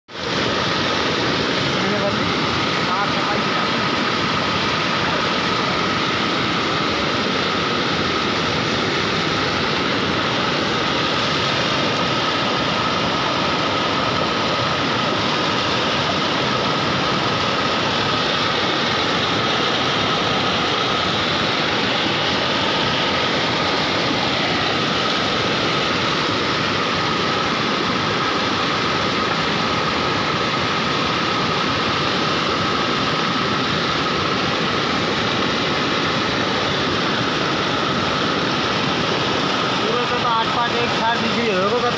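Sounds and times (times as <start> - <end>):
flood water rushing: 0.1 - 41.9.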